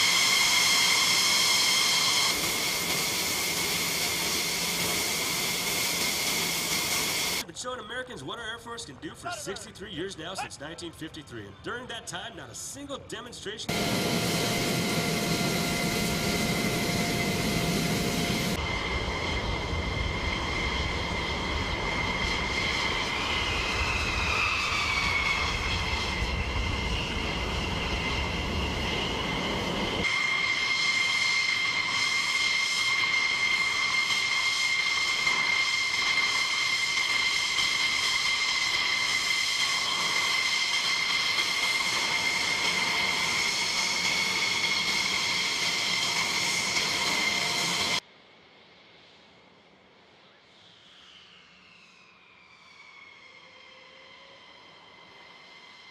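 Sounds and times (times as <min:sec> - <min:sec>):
jet engine whine: 0:00.0 - 0:55.9.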